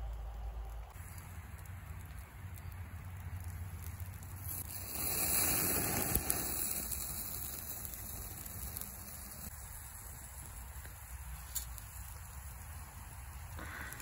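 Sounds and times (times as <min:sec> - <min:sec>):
fire sharp crack: 0:00.0 - 0:14.0
wood fire crackling: 0:00.0 - 0:14.0
fish sizzling over coals: 0:00.1 - 0:14.0.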